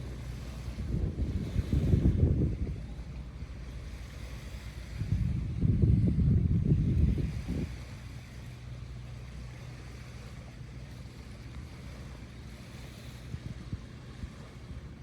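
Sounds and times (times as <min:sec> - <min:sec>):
faint sea surf: 0:00.0 - 0:15.0
wind rumbling on microphone: 0:00.0 - 0:15.0.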